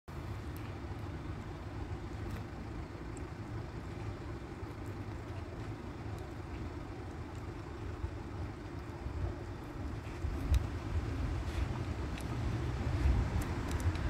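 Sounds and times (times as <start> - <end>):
outdoor background rumble: 0.1 - 14.0
cat chewing dry kibble: 0.4 - 14.0.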